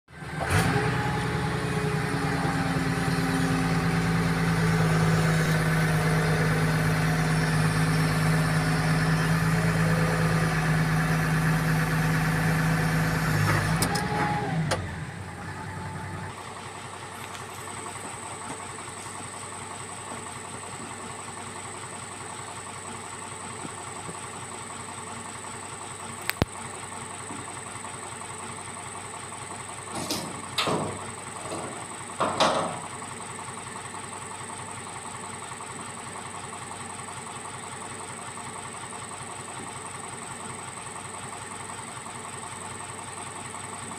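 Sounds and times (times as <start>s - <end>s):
excavator diesel engine running: 0.1s - 43.9s.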